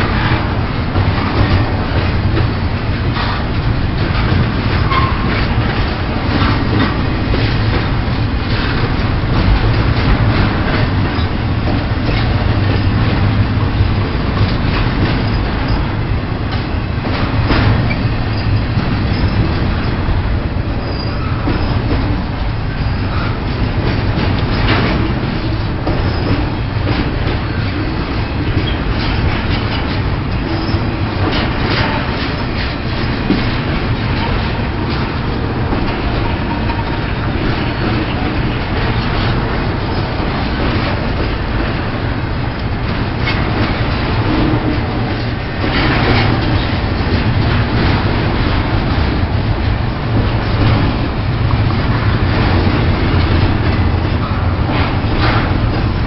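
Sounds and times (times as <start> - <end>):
freight train rumbling on rails: 0.0 - 56.0
train clatter: 0.0 - 56.0.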